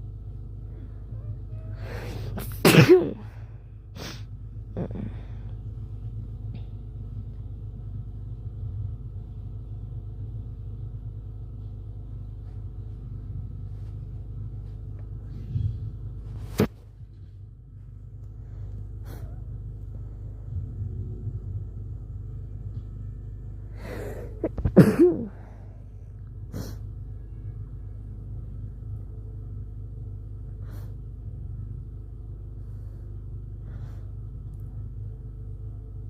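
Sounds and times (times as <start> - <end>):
faint hum: 0.0 - 36.0
low background rumble: 0.0 - 36.0.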